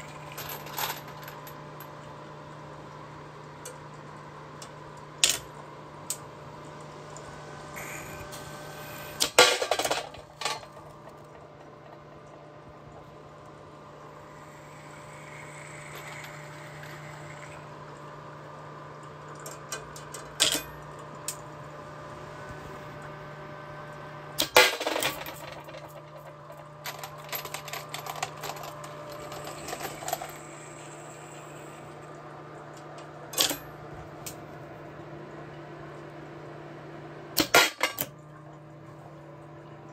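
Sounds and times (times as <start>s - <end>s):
annealing machine humming: 0.0s - 24.4s, 25.3s - 37.4s.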